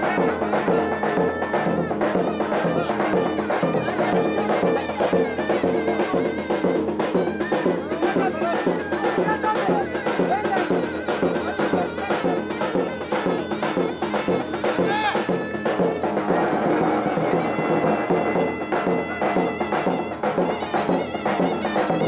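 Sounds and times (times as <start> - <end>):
shrill reed pipe melody: 0.0 - 22.0
steady drumbeat: 0.0 - 22.0.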